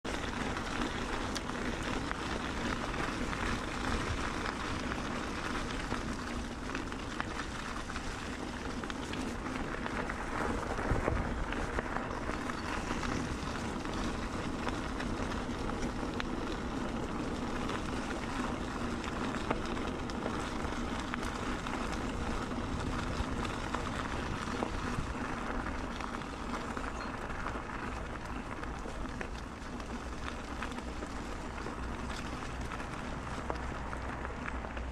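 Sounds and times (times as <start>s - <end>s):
bicycle tyres rolling on wet gravel: 0.0s - 34.9s
bike clicks and rattles: 0.1s - 34.9s.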